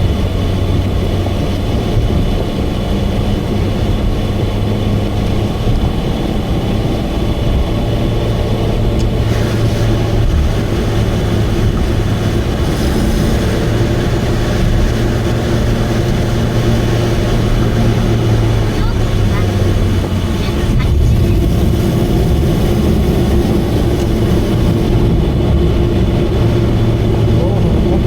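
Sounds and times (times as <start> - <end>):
car engine cruising: 0.0 - 28.0
exhaust drone: 0.0 - 28.0.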